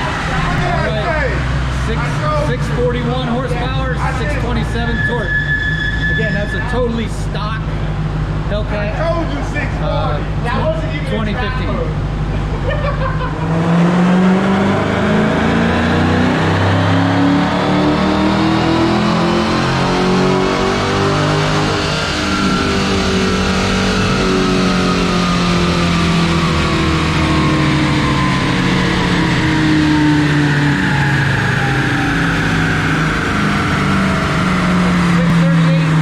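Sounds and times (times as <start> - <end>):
car engine at full throttle: 0.0 - 5.2, 6.2 - 36.0.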